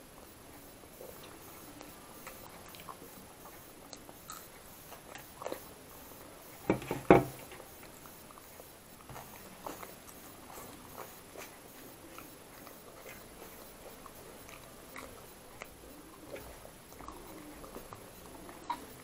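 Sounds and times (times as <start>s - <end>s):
chewing with mouth clicks: 0.2s - 19.0s.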